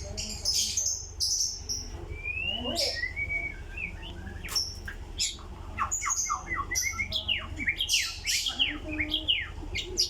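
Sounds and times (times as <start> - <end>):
bird singing whistled notes: 0.7 - 10.0.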